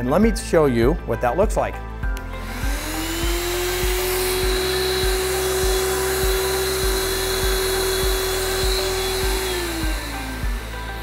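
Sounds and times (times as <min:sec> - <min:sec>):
fogger motor whining: 0:02.2 - 0:11.0.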